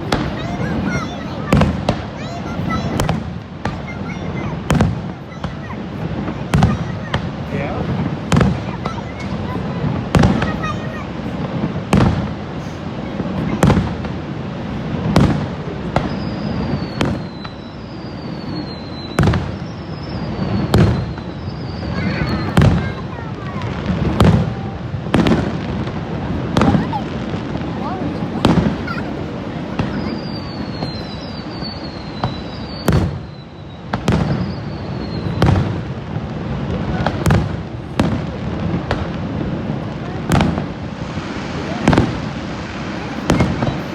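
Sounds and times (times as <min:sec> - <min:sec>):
fireworks bursting with bangs: 0:00.0 - 0:43.9.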